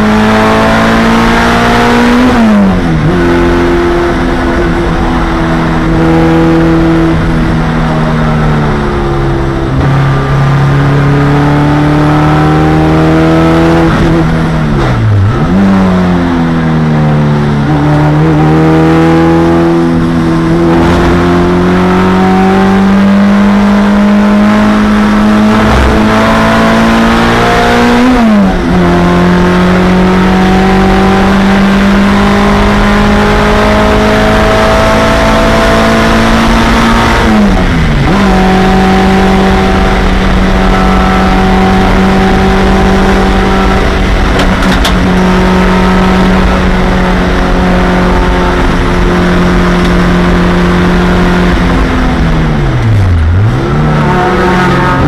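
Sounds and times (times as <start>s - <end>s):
car engine at full throttle: 0.0s - 55.0s
road and wind noise: 0.0s - 55.0s.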